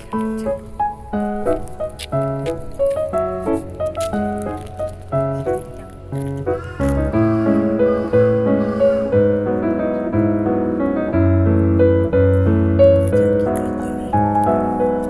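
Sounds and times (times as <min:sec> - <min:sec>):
piano tune with bass line: 0:00.0 - 0:15.0.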